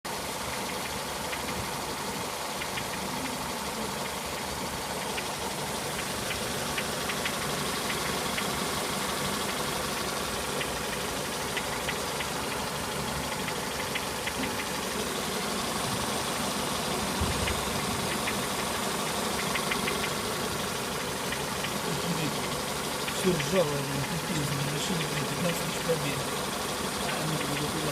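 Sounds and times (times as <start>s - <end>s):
car engine idling: 0.0s - 27.9s
sharp knocking ticks: 0.4s - 15.0s, 15.8s - 27.9s.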